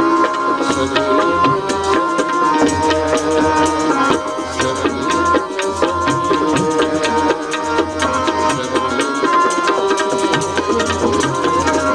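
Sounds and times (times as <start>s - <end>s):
hand drum rhythm: 0.0s - 11.9s.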